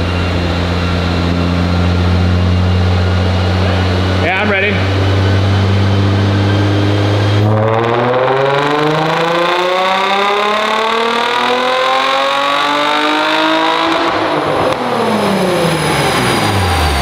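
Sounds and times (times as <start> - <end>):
car engine revving on dyno: 0.0 - 17.0.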